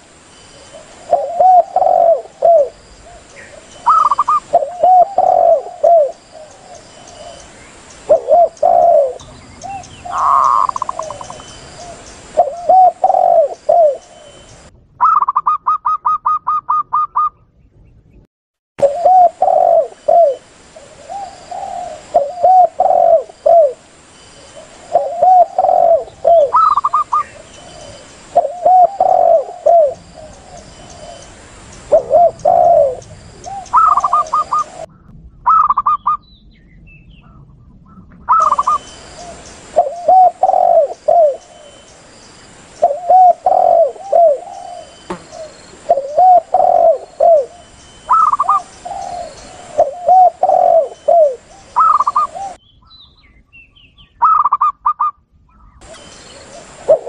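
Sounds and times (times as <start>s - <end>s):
doves cooing in low phrases: 0.0s - 17.4s, 18.8s - 36.0s, 37.2s - 41.9s, 42.8s - 52.6s, 55.8s - 57.0s.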